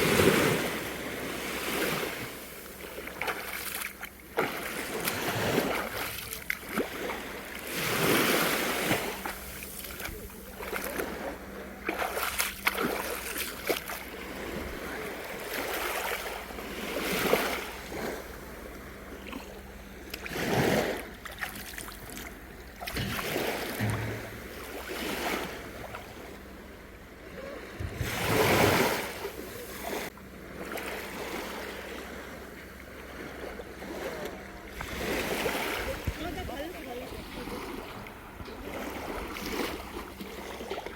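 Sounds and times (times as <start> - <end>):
seawater lapping and splashing: 0.0 - 40.9.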